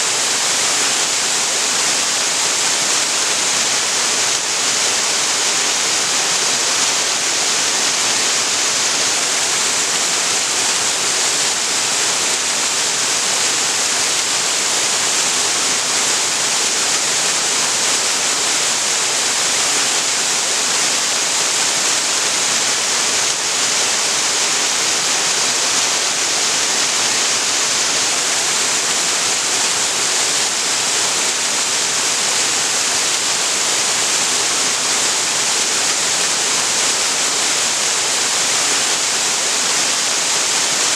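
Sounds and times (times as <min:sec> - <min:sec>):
waterfall pouring and splashing: 0:00.0 - 0:40.9.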